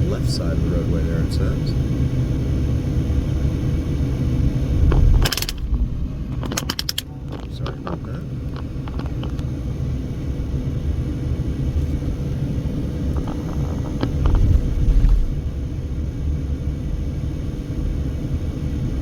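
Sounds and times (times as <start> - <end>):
car driving heard from inside: 0.0 - 19.0.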